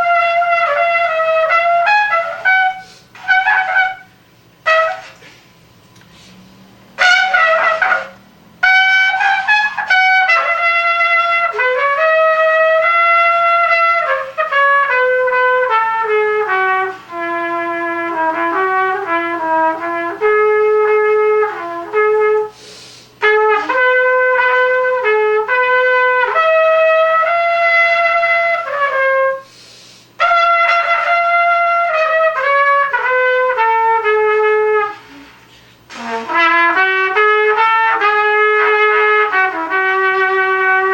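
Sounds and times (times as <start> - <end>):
trumpet playing a melody: 0.0 - 5.3, 6.9 - 40.9.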